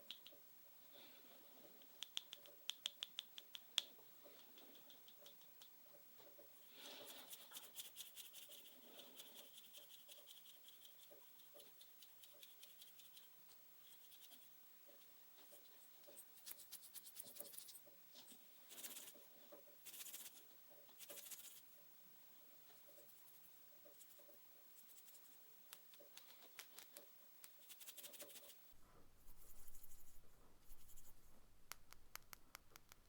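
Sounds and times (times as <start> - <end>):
light tapping and scratching: 1.5 - 21.7, 22.6 - 33.0.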